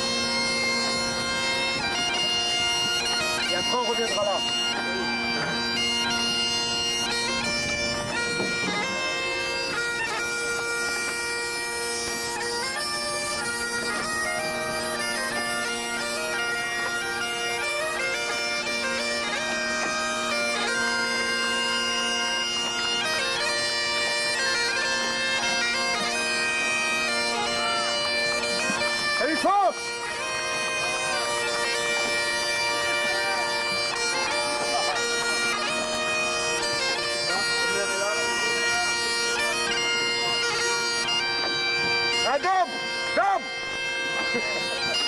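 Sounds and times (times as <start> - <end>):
bagpipe melody over drones: 0.0 - 45.0.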